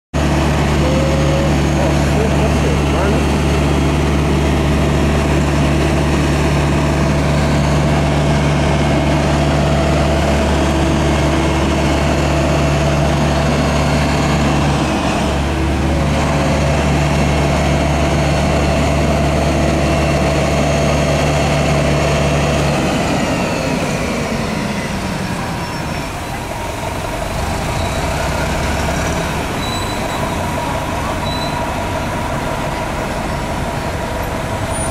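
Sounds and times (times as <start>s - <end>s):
bus diesel engine running: 0.1s - 34.9s.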